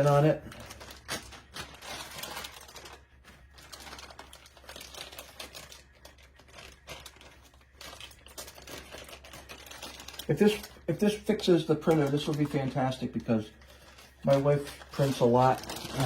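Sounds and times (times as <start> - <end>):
packaging clicks and rustling: 0.0 - 16.0.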